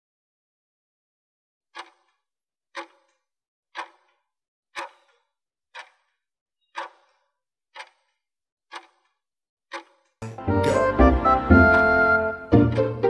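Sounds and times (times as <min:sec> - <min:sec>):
clock ticks: 0:01.7 - 0:04.2, 0:04.8 - 0:13.0.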